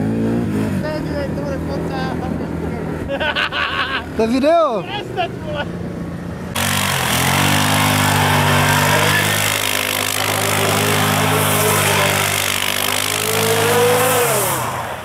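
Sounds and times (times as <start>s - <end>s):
quad bike engine revving: 0.0s - 15.0s.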